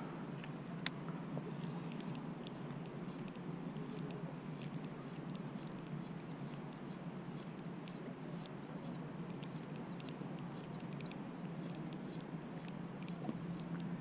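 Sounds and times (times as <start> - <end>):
steady low rumble: 0.0 - 14.0
faint ticks: 0.3 - 14.0
small bird chirping: 1.2 - 14.0.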